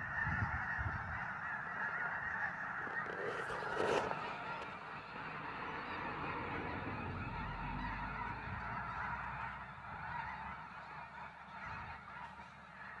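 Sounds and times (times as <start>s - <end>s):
snow geese honking: 0.0s - 13.0s.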